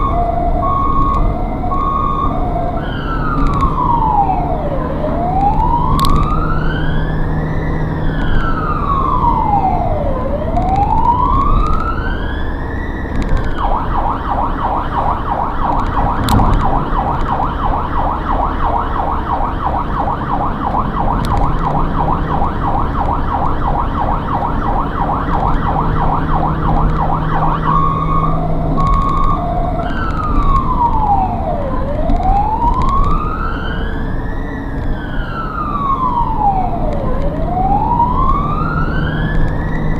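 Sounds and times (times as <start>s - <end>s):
ambulance siren wailing and yelping: 0.0s - 39.9s
engine and road noise: 0.0s - 39.9s.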